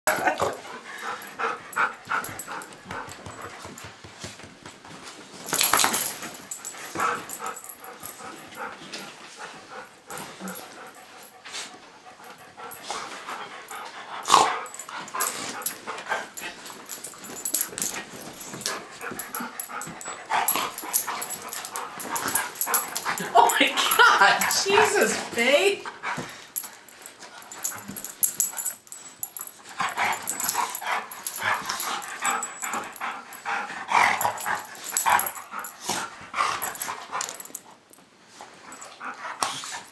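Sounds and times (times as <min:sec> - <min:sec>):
dogs scuffling and mouthing: 0:00.1 - 0:39.9.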